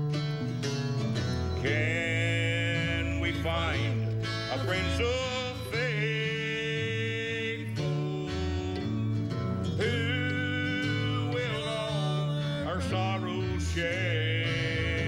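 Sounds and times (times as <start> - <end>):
guitar: 0.0 - 15.0
mandolin: 0.0 - 15.0.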